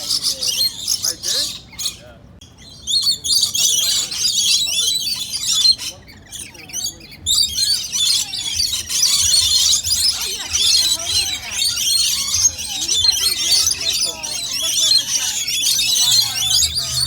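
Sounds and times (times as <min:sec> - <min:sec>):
lorikeets chattering: 0:00.0 - 0:17.0.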